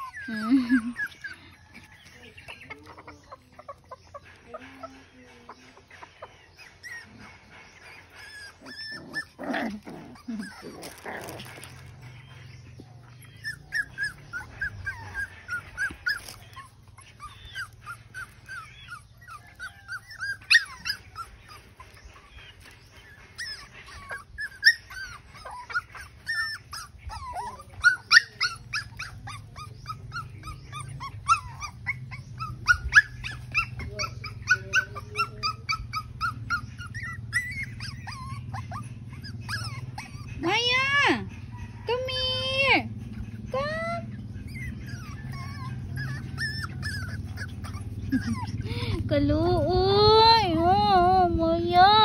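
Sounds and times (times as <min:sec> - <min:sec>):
puppy whimpering: 0:00.0 - 0:52.0.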